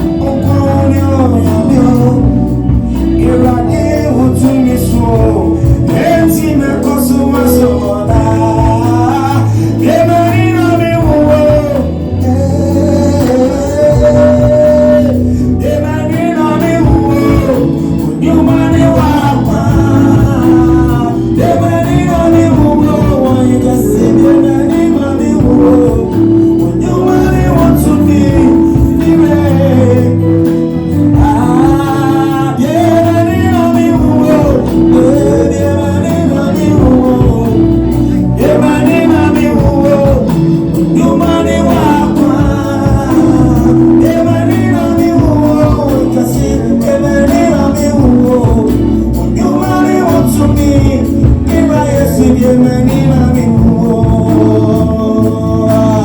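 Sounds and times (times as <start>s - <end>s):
gospel singing with band: 0.0s - 56.0s.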